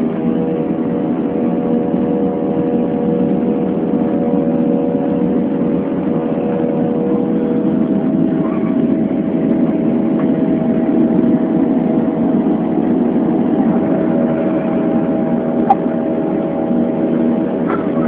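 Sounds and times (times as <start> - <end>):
jet engine roar in cabin: 0.0 - 18.0.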